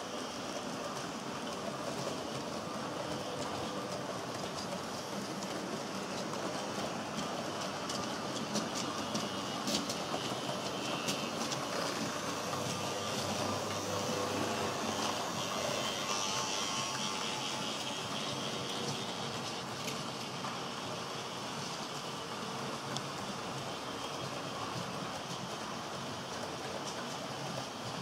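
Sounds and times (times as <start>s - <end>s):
model train wheels rattling on rails: 0.0s - 28.0s.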